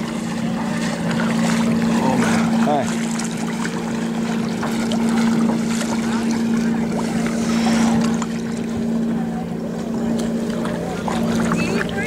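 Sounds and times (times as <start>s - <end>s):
paddle splashing water: 0.0s - 12.0s
steady engine hum: 0.0s - 12.0s.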